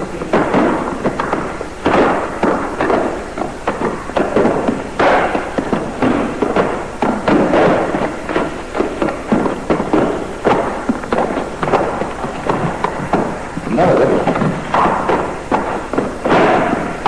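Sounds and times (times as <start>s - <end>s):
sharp knocks and thuds: 0.0s - 17.0s.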